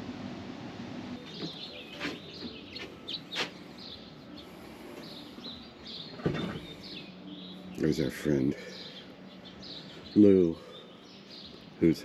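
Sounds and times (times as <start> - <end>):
birds chirping and singing: 1.2 - 12.0.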